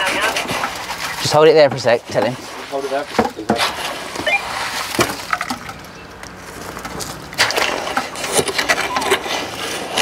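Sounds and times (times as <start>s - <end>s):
rake scraping in wet concrete: 0.0s - 10.0s.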